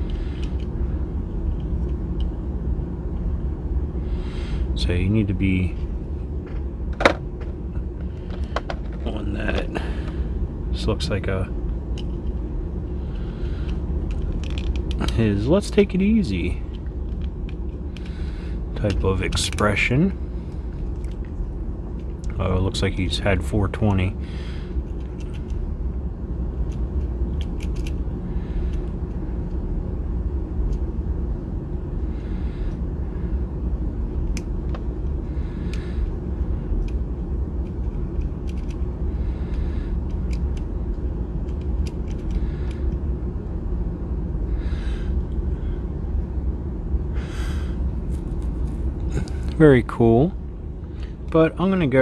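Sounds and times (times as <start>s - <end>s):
low room noise rumble: 0.0s - 52.0s.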